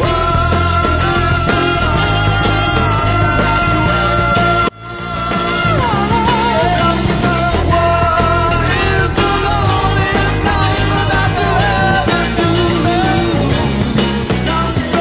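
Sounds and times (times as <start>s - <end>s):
rock song: 0.0s - 15.0s.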